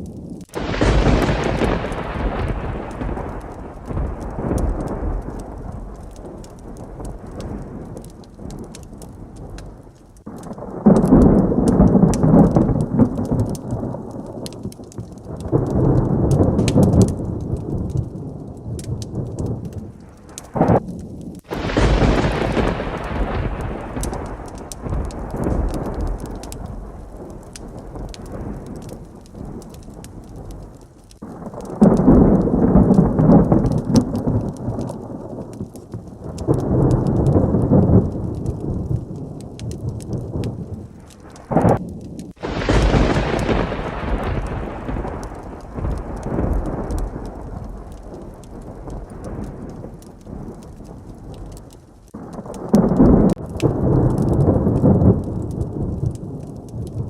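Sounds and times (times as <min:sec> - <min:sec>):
heavy rain: 0:00.0 - 0:57.0
rolling thunder rumbles: 0:00.0 - 0:57.0
sharp thunder crack: 0:00.2 - 0:57.0.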